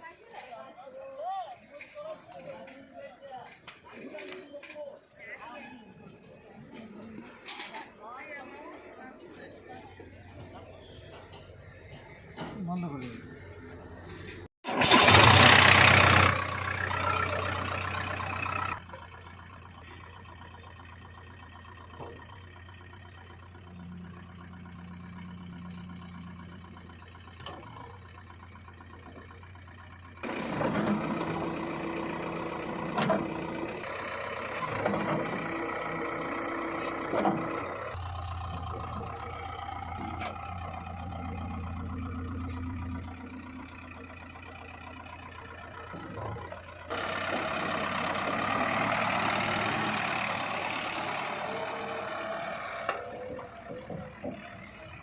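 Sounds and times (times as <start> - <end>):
low engine hum: 6.1 - 55.0.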